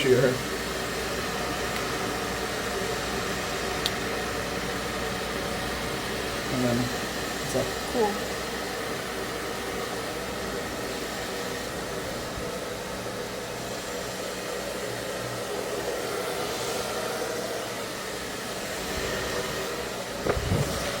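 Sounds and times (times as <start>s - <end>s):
hair dryer blowing air: 0.0s - 21.0s.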